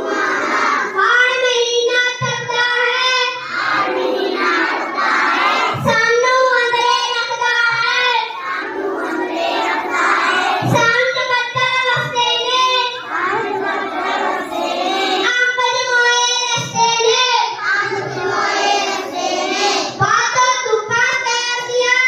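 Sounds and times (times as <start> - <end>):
child singing: 0.0 - 22.0.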